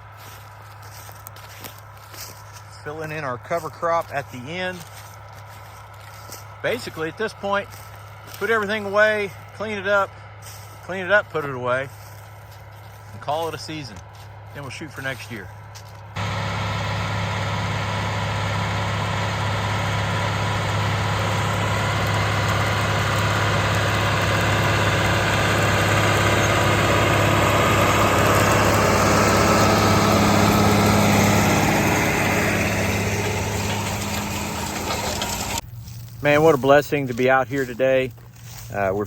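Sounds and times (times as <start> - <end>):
diesel engine of farm machinery: 0.0 - 39.0.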